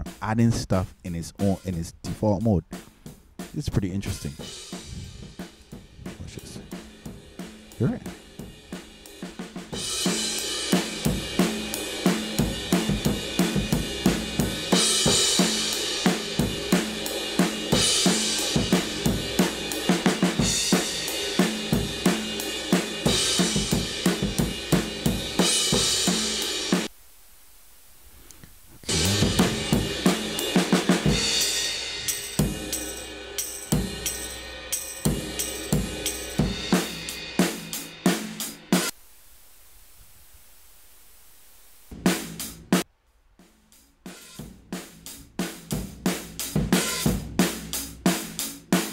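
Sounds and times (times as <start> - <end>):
drum kit beat: 0.0 - 26.9, 28.8 - 39.0, 41.9 - 48.9.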